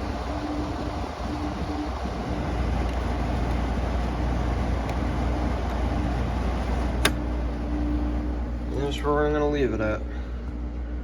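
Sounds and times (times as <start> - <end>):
air conditioner fan and hum: 0.0 - 11.0.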